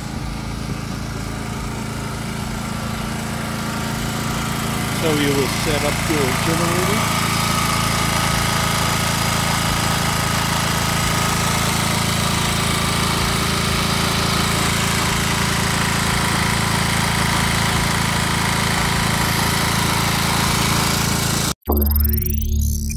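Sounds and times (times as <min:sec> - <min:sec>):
generator engine running: 0:00.0 - 0:22.4.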